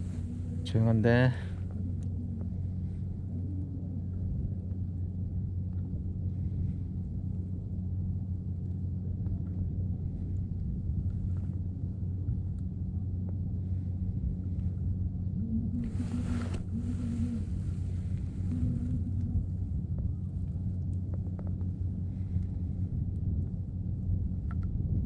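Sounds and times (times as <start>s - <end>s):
low rumbling hum: 0.0s - 25.0s.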